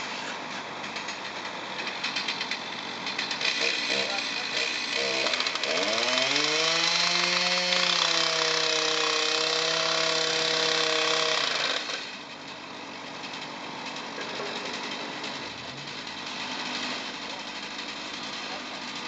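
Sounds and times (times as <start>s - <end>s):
small engine power tool running: 1.8s - 19.0s.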